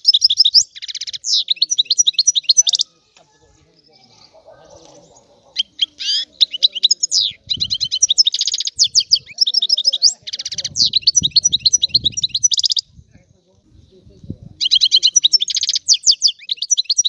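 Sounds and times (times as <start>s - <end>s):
finch twittering song: 0.0s - 17.0s.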